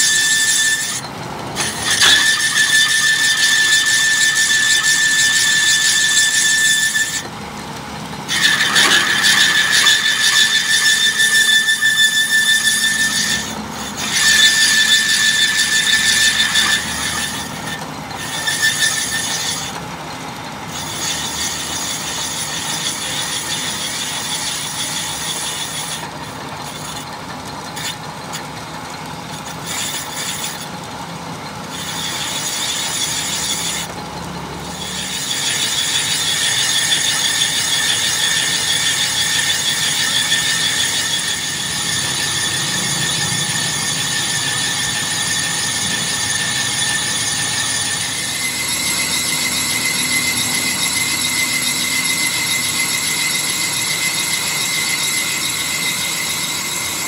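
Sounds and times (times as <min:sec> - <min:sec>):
metal lathe cutting: 0:00.0 - 0:57.0.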